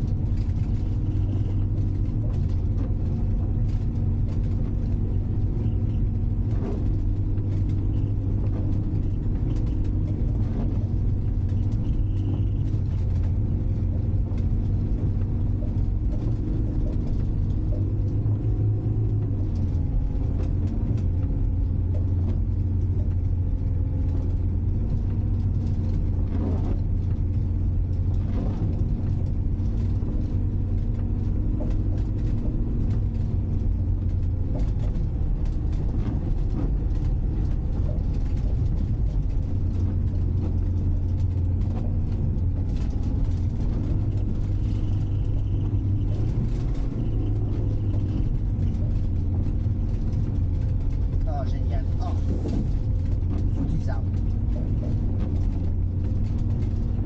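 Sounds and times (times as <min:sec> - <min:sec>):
diesel engine running: 0:00.0 - 0:57.0
studded tyres on snow: 0:00.0 - 0:57.0.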